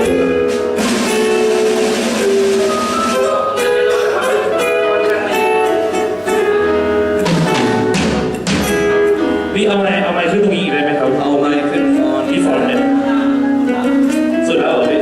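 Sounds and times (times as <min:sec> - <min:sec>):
held melodic notes: 0:00.0 - 0:15.0
live band music: 0:00.0 - 0:15.0.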